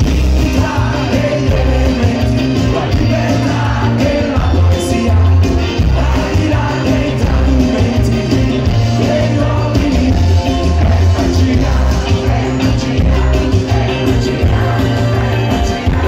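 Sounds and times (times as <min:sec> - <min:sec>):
live rock band: 0:00.0 - 0:16.0
male singer: 0:00.0 - 0:16.0.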